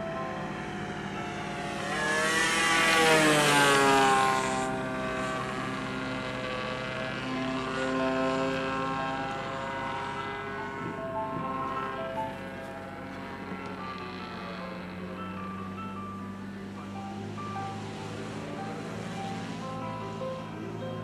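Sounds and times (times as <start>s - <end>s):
model plane motor droning: 0.0s - 21.0s.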